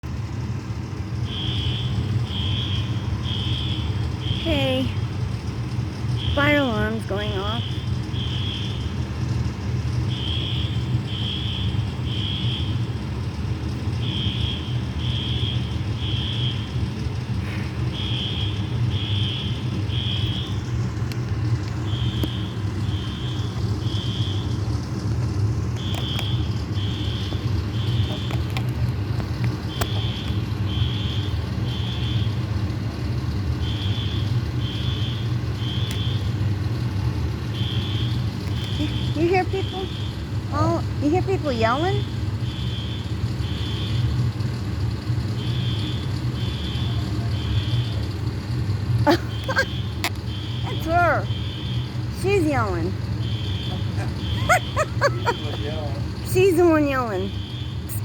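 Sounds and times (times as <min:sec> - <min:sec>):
steady low rumble: 0:00.0 - 0:58.0
fire alarm beeping: 0:01.1 - 0:28.6, 0:29.6 - 0:48.5, 0:49.1 - 0:58.0.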